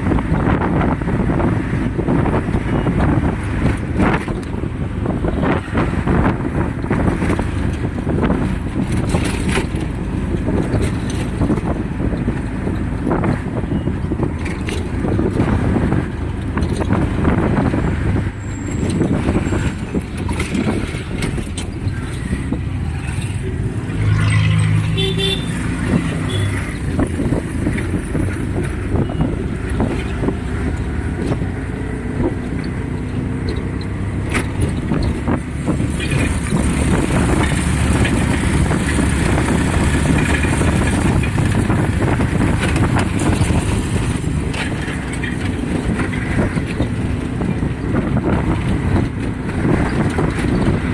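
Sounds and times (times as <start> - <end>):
vehicle rumbling on road: 0.0 - 50.9
knocks and rattles: 2.5 - 24.8, 25.6 - 50.9.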